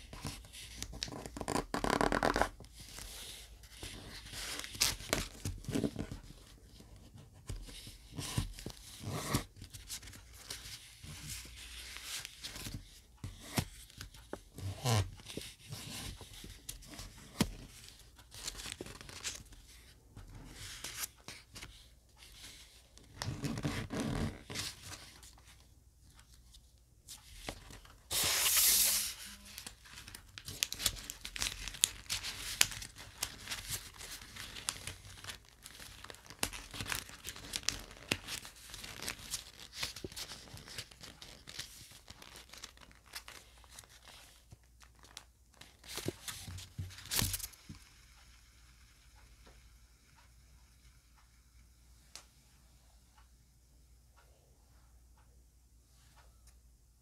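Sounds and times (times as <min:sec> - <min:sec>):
paper folding and crinkling: 0:00.0 - 0:47.5.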